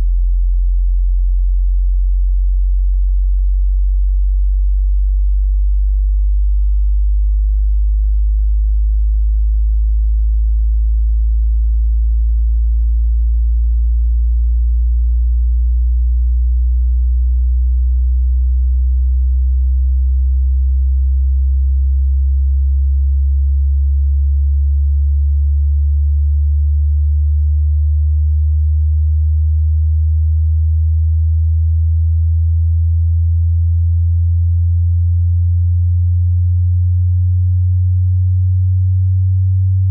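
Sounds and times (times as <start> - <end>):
rising sine tone: 0.0 - 39.9.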